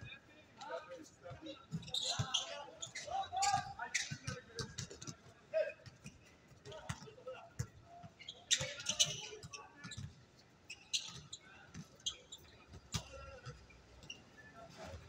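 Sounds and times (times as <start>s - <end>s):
sneakers squeaking: 1.6s - 5.2s, 5.8s - 15.0s.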